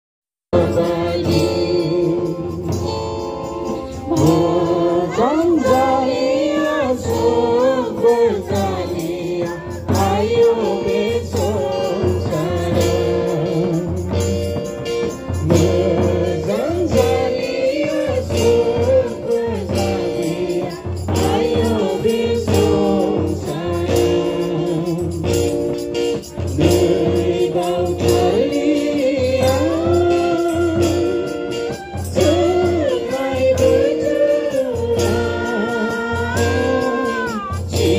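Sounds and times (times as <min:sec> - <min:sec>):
group singing a hymn: 0:00.6 - 0:03.0, 0:03.7 - 0:25.7, 0:26.4 - 0:37.9.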